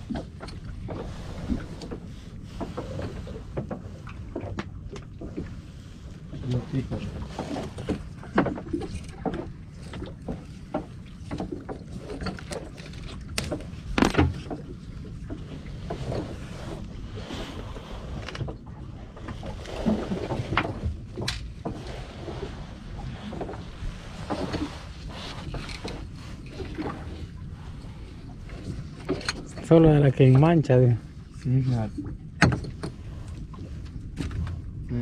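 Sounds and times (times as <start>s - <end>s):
wind and water rumble: 0.0s - 35.0s.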